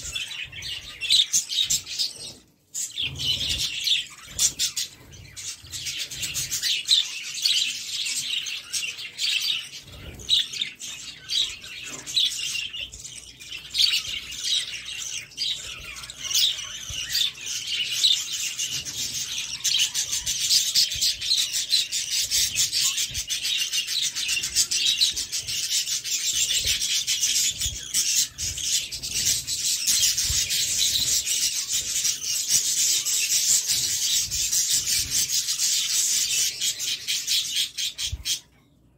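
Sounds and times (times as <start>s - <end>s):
parakeet chicks chattering: 0.0s - 38.6s.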